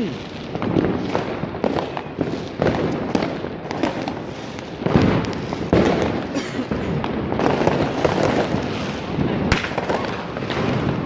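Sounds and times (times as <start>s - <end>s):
firecracker bangs and crackling: 0.0s - 11.0s
heavy firework bursts: 0.0s - 11.0s.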